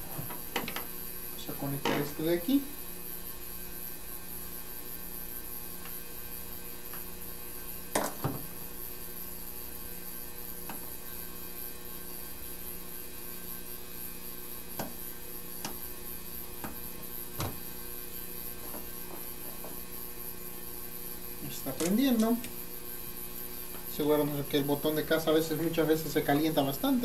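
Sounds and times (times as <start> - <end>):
mains hum: 0.0 - 27.0.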